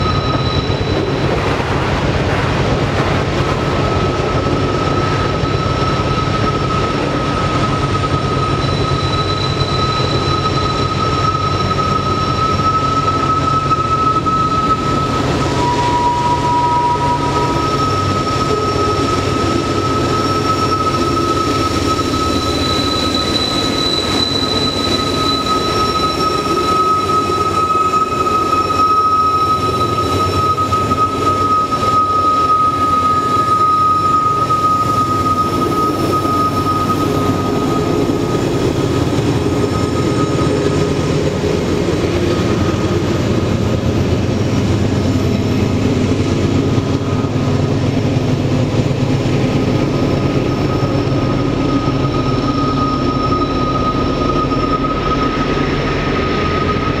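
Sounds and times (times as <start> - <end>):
freight train rumbling: 0.0 - 57.0
train wheels squealing: 0.0 - 57.0.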